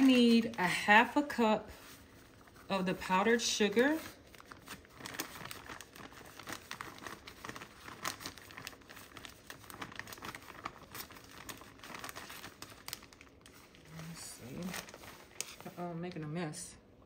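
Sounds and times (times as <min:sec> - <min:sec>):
sugar crinkling and scraping: 0:00.0 - 0:16.7.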